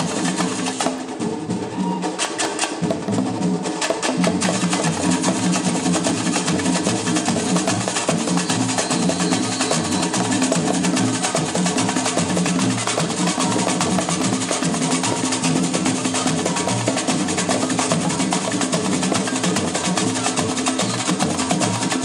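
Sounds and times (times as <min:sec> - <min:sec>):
samba hand drums: 0:00.0 - 0:22.0.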